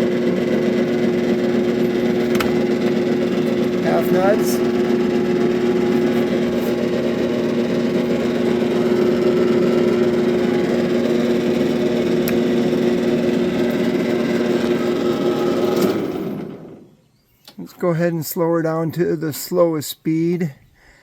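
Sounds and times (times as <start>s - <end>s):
metal lathe humming: 0.0s - 16.8s.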